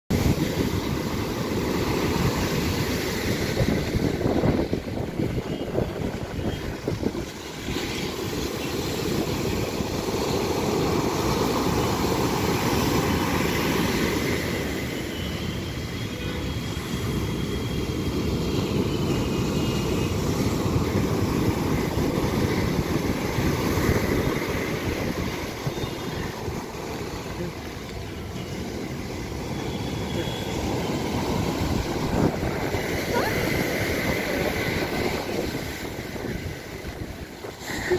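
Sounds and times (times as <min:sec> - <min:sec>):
wind buffeting microphone: 0:00.1 - 0:14.8, 0:17.3 - 0:29.5, 0:30.6 - 0:37.9
sea surf breaking on beach: 0:00.1 - 0:37.9.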